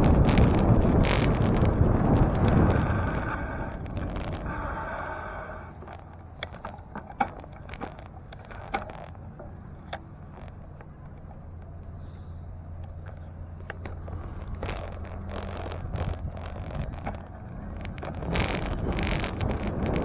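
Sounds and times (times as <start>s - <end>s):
bicycle clicks and rattles: 0.0s - 11.9s, 12.7s - 20.0s
bicycle tyre and wind rumble: 0.0s - 20.0s.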